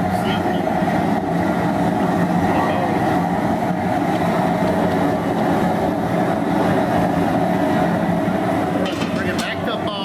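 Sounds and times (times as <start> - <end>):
gas burner roaring: 0.0 - 10.0
water boiling: 0.0 - 10.0.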